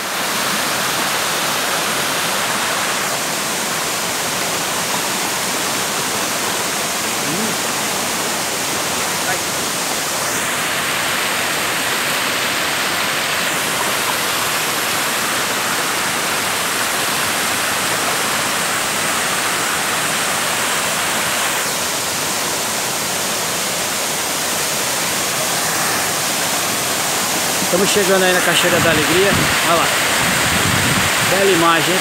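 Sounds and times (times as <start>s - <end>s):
stream rushing over rocks: 0.0s - 32.0s
waterfall pouring into pool: 0.0s - 32.0s.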